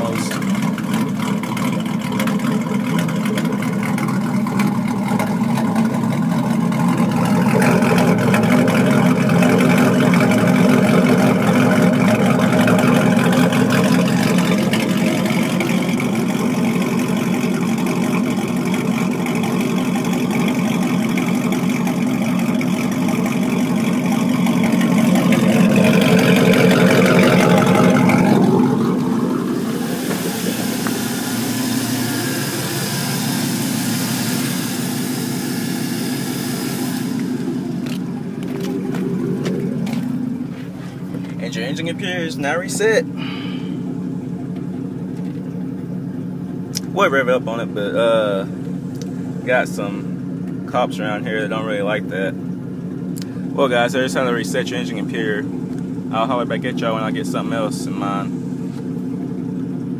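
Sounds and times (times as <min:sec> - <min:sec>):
truck engine lopey idle: 0:00.0 - 0:59.9.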